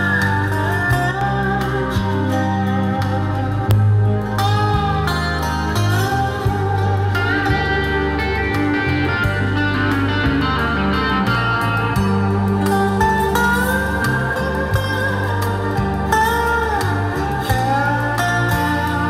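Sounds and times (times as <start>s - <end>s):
bass line: 0.0s - 19.0s
guitar music over speakers: 0.0s - 19.0s.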